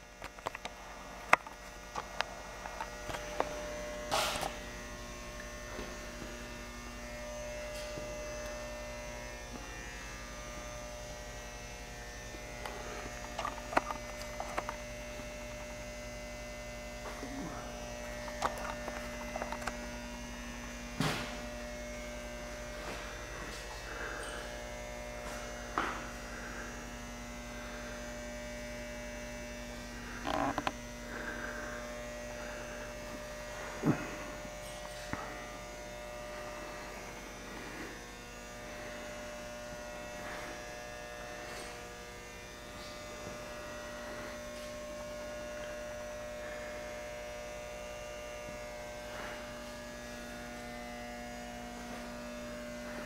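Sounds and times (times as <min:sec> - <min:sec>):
electrical mains hum: 0:00.0 - 0:53.0
faint high whine: 0:00.0 - 0:53.0.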